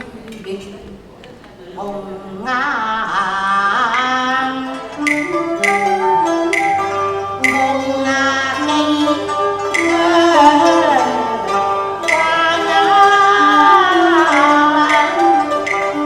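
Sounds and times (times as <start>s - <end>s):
person singing with gliding notes: 1.8s - 16.0s
traditional instrumental accompaniment: 2.9s - 16.0s.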